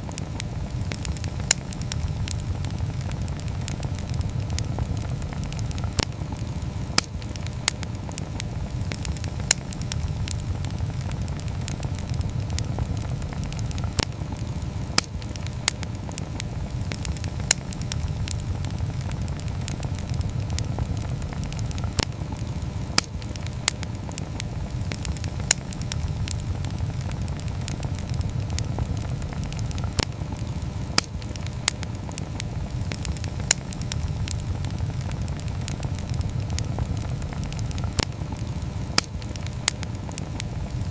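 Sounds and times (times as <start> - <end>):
campfire crackling and popping: 0.0 - 40.9
fire low rumble: 0.0 - 40.9.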